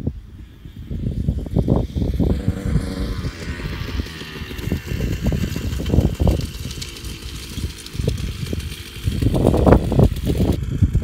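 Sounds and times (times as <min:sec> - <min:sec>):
distant dirt bike revving: 0:00.0 - 0:11.0
wind buffeting microphone: 0:00.0 - 0:11.0.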